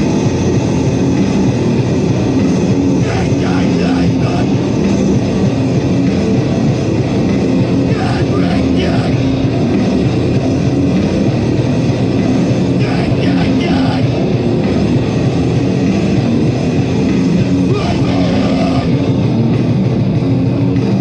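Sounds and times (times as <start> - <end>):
loud distorted heavy band: 0.0 - 21.0.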